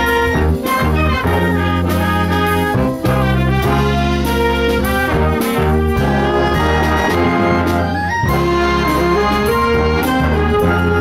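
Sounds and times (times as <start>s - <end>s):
drum kit: 0.0s - 11.0s
saxophones: 0.0s - 11.0s
trombones: 0.0s - 11.0s
trumpets: 0.0s - 11.0s.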